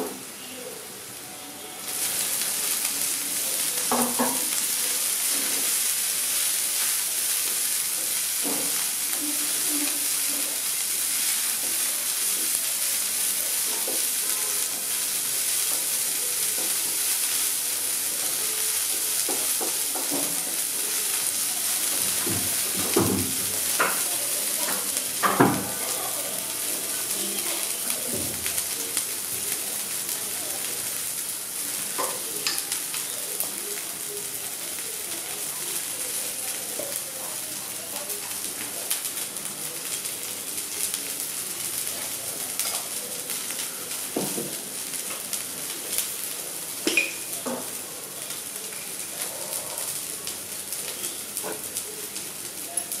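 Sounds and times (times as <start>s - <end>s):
vegetables sizzling in hot oil: 0.0s - 53.0s.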